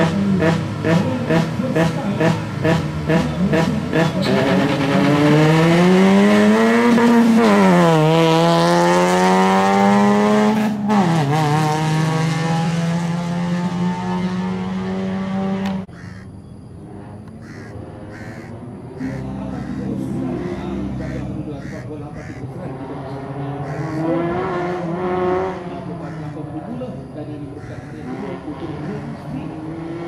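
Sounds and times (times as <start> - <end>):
car engine accelerating hard: 0.0 - 15.9, 17.0 - 26.8, 27.6 - 30.0.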